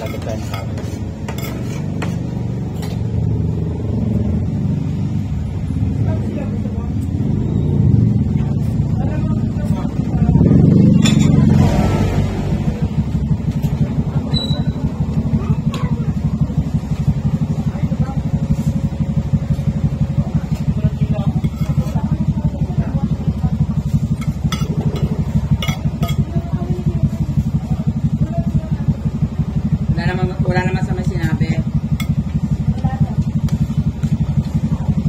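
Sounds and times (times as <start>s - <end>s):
pulsing low motor rumble: 0.0s - 35.0s
faint voices: 5.6s - 35.0s.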